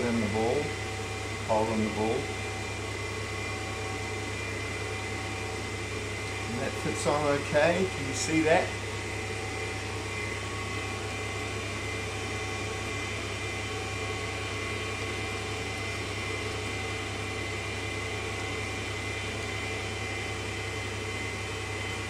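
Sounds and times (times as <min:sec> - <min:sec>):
grinder motor humming with high whine: 0:00.0 - 0:22.0.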